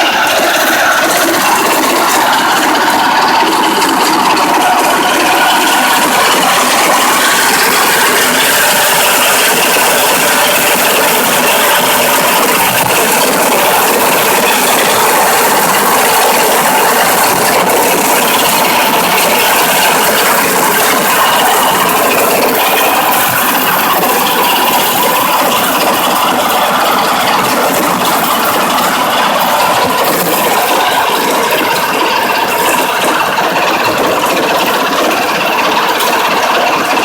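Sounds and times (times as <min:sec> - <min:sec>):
harvesting machine engine running: 0:00.0 - 0:37.0.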